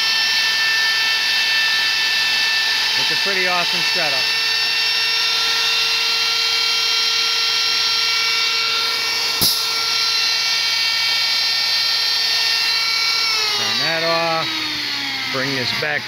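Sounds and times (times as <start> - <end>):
die grinder whining while cutting wood: 0.0 - 16.0.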